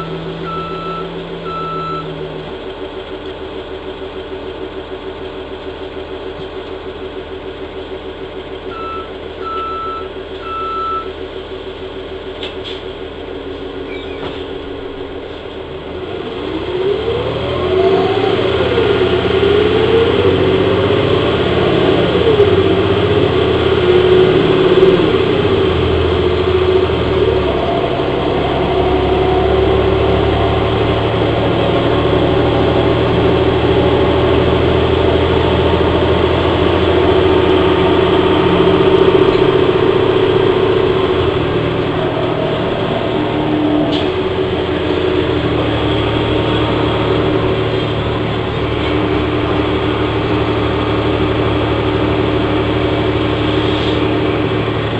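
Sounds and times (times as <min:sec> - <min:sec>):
bus diesel engine accelerating: 0:00.0 - 0:54.9.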